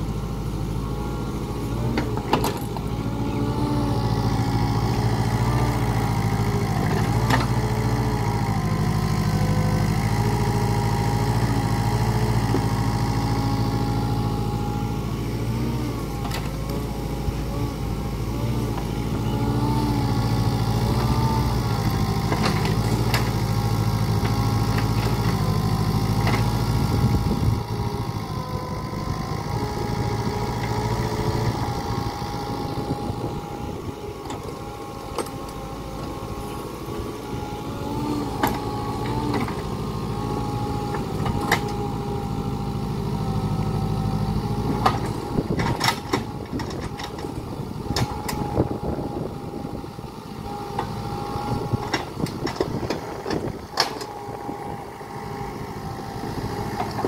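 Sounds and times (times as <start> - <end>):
diesel engine running: 0.0 - 57.0
hydraulic whine: 0.7 - 57.0.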